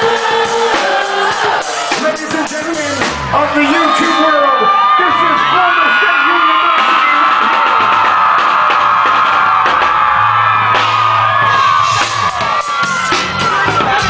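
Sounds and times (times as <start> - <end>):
crowd cheering and yelling: 0.0 - 14.0
live rock band music: 0.0 - 14.0.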